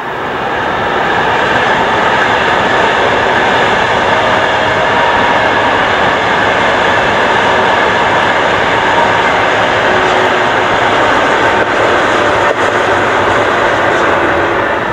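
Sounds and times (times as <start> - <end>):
high-speed train passing: 0.0 - 14.9.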